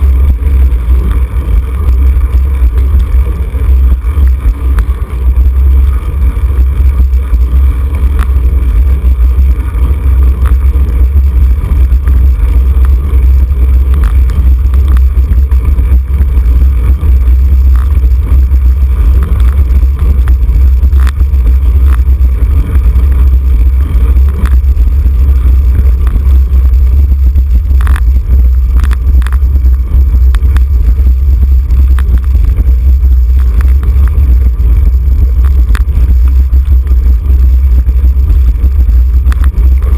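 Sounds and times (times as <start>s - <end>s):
sharp clicks and rattles: 0.0s - 39.9s
wind rumble on microphone: 0.0s - 39.9s.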